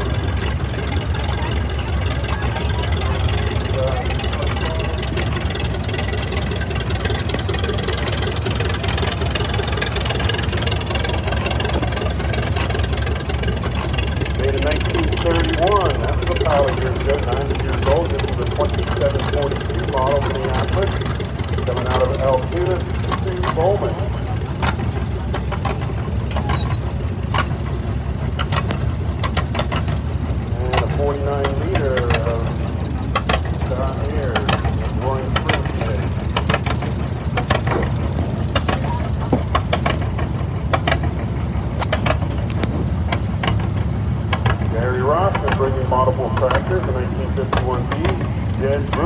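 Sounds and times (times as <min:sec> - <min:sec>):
tractor engines rumbling: 0:00.0 - 0:49.0.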